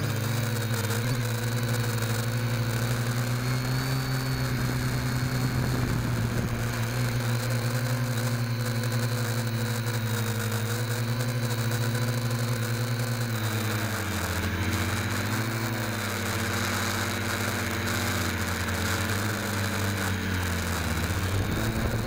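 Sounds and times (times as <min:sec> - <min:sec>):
drone motors and propellers whirring: 0:00.0 - 0:22.0.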